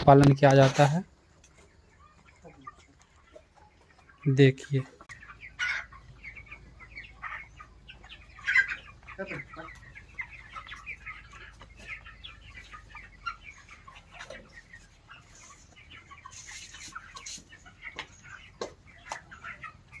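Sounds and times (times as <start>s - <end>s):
chickens clucking and chirping: 0.0s - 20.0s.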